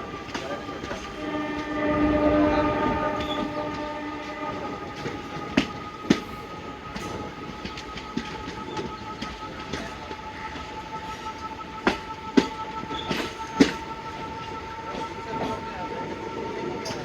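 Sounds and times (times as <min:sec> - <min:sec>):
train rumble: 0:00.0 - 0:17.0
train wheels clicking on rail joints: 0:00.0 - 0:17.0.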